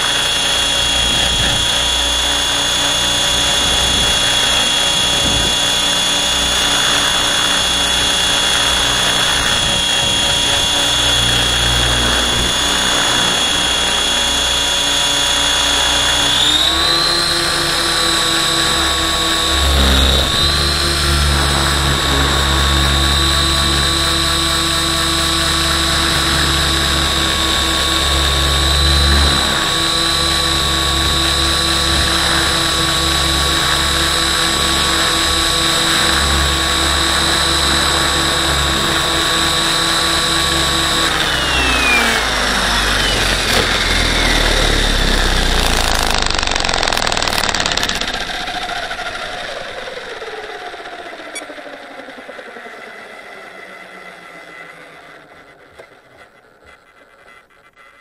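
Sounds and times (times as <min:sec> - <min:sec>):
low rumbling: 0:00.0 - 0:50.7
model helicopter rotor whine: 0:00.0 - 0:58.0.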